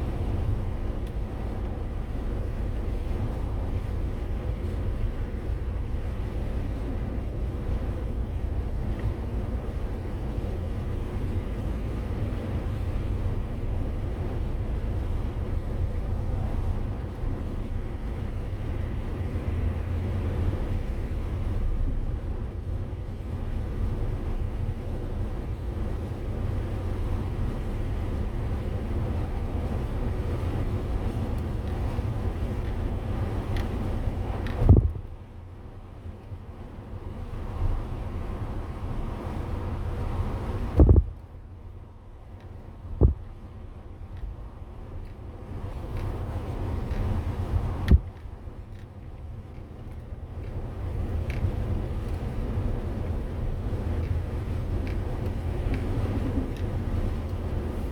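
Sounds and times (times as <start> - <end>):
van engine and road rumble: 0.0 - 57.9.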